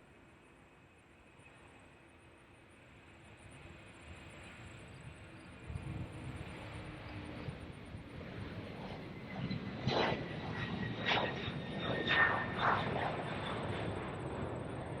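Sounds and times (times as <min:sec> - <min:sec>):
airliner engine rumble and whine: 0:00.0 - 0:15.0.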